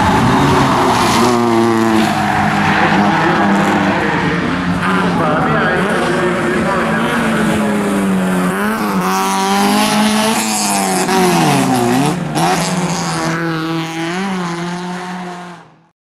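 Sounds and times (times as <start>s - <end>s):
race car engines at full throttle: 0.0s - 15.9s.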